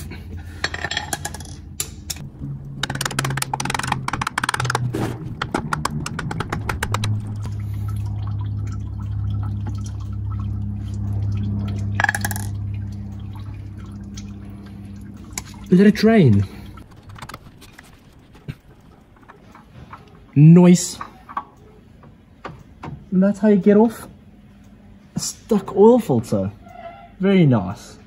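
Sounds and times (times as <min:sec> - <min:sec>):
steady low hum: 0:00.0 - 0:26.6.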